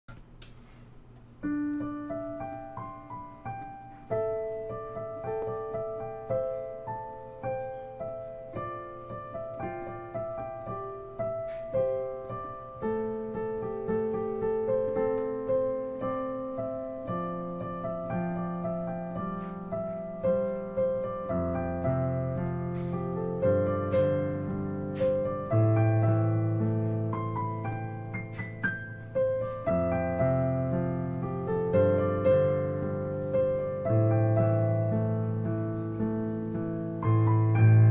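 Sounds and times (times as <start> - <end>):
deep piano bass notes: 1.4 - 37.9
digital piano melody over chords: 1.4 - 37.9.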